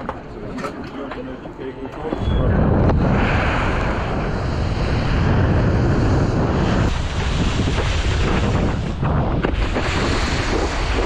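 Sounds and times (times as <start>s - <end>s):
wind buffeting microphone: 2.1s - 11.0s.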